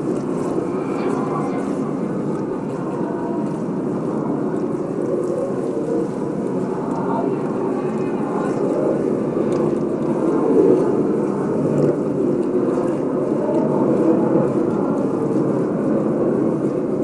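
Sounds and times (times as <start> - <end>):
dark low drone: 0.0 - 17.0
faint crackling ticks: 0.0 - 17.0.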